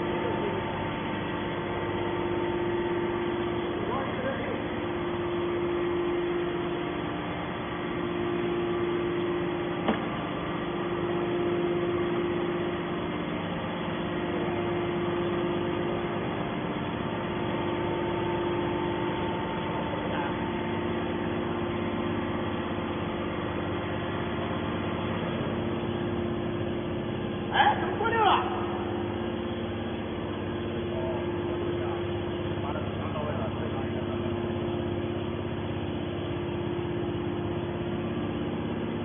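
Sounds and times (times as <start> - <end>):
hydraulic press motor humming: 0.0 - 39.0.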